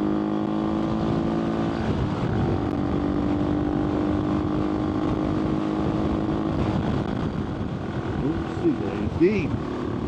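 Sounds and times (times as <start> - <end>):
motorcycle engine running: 0.0 - 10.0
wind rushing past microphone: 0.1 - 10.0.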